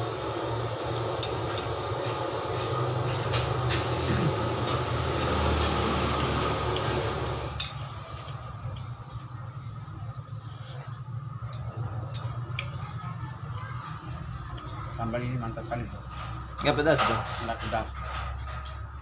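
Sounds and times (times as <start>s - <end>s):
low mechanical rumble with hiss: 0.0s - 19.0s.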